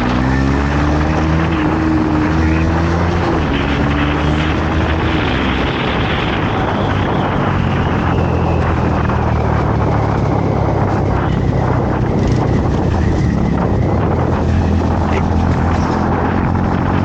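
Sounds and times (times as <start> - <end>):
motorcycle engine hum: 0.0 - 17.0
wind rushing on microphone: 0.0 - 17.0.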